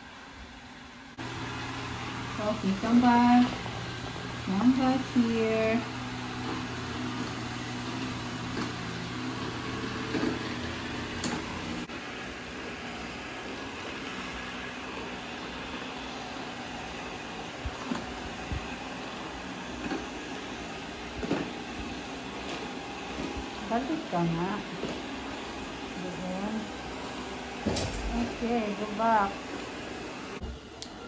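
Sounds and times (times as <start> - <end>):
robot vacuum motor hum: 1.2 - 31.0.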